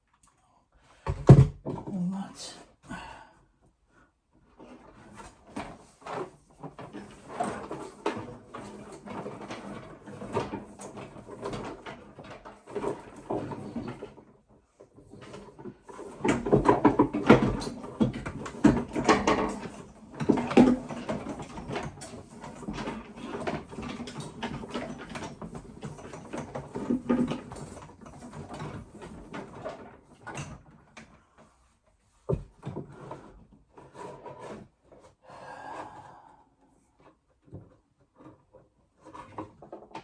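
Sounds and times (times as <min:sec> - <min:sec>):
tools and boards being handled: 0:04.5 - 0:36.3, 0:36.9 - 0:40.0.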